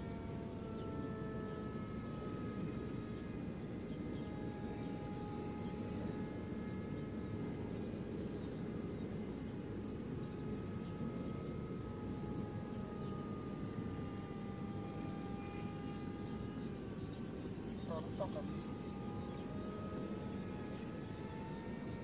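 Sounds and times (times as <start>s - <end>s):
model airplane motor whining: 0.0s - 22.0s.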